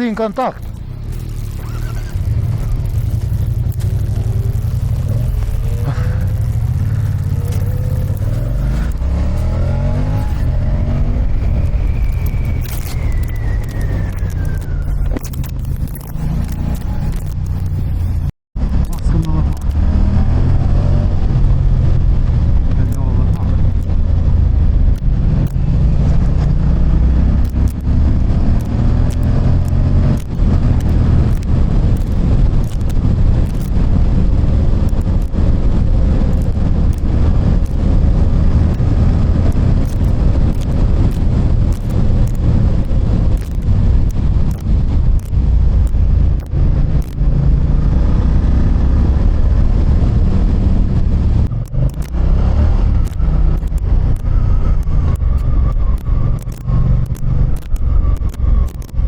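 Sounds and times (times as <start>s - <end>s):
motorcycle engine accelerating: 0.0s - 59.0s
wind rumble on microphone: 0.0s - 59.0s.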